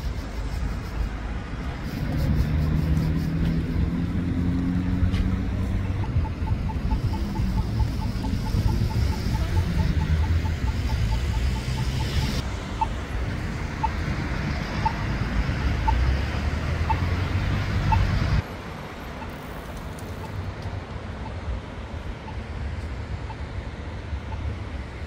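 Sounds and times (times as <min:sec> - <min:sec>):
city street traffic rumbling: 0:00.0 - 0:25.0.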